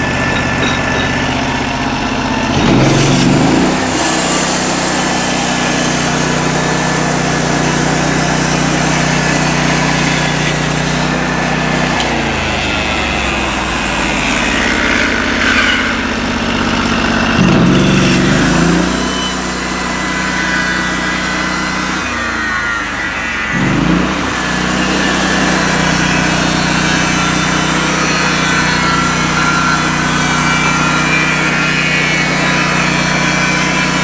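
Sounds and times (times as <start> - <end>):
sawmill engine running: 0.0 - 34.0.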